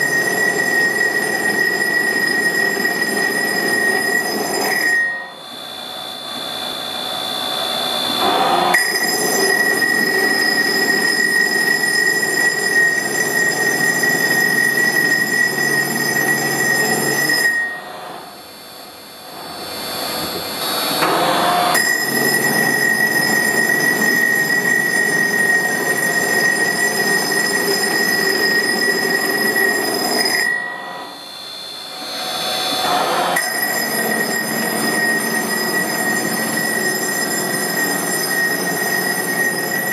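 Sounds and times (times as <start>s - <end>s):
tool grinding stone: 0.0s - 5.4s, 8.2s - 18.0s, 21.0s - 31.3s, 32.3s - 39.9s
saw spindle whining: 0.0s - 39.9s.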